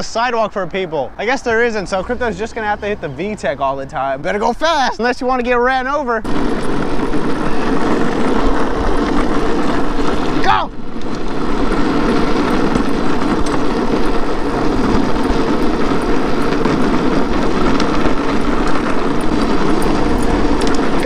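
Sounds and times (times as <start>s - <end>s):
wheels rolling over asphalt: 0.0s - 21.0s.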